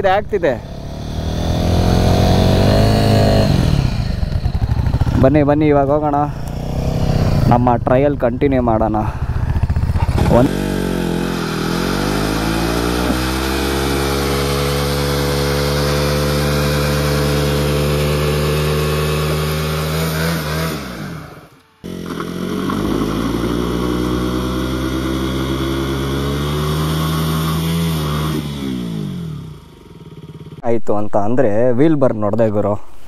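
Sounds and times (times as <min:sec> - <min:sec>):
motorcycle engine revving: 0:00.0 - 0:30.6.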